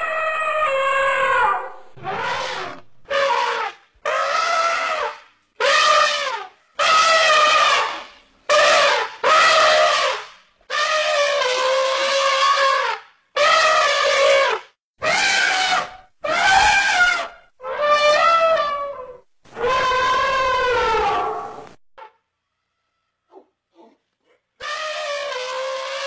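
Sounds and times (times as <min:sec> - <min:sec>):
elephants trumpeting: 0:00.0 - 0:21.7, 0:24.6 - 0:26.0.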